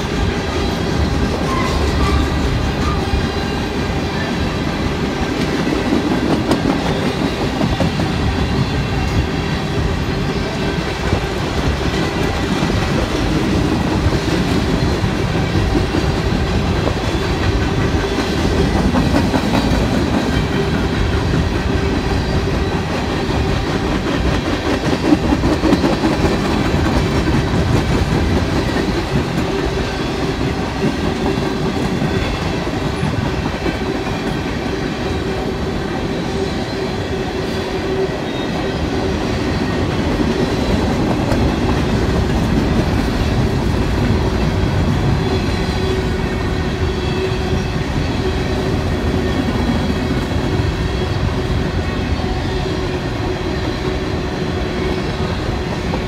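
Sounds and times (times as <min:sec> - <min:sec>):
train wheels clicking on rails: 0:00.0 - 0:56.0.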